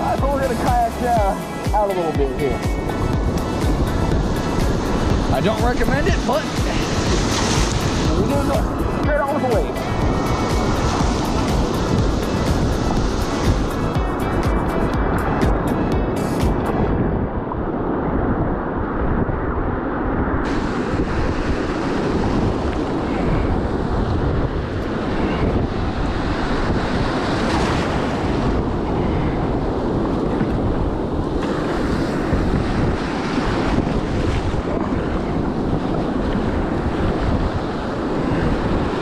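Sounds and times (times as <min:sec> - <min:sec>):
surf breaking and rushing water: 0:00.0 - 0:39.0
wind buffeting microphone: 0:00.0 - 0:39.0.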